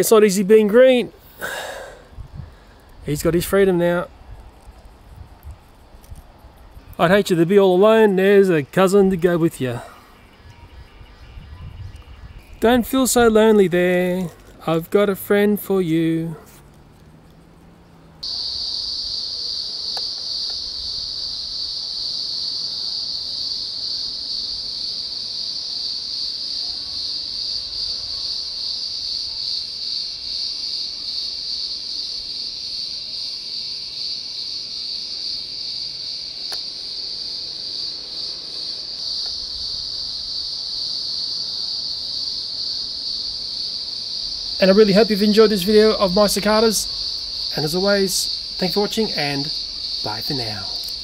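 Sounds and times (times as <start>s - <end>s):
cicadas buzzing: 0.0s - 51.0s.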